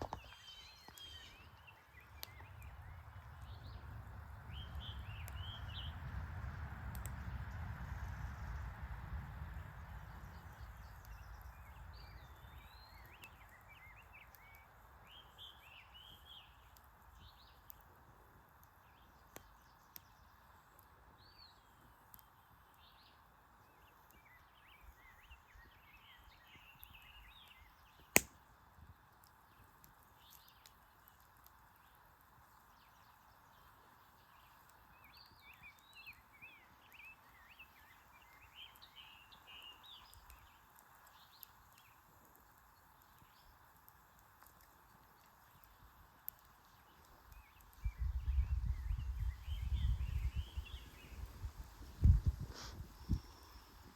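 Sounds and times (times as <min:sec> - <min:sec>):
small birds chirping: 0:00.0 - 0:06.1, 0:09.5 - 0:18.0, 0:18.6 - 0:28.3, 0:28.9 - 0:53.9.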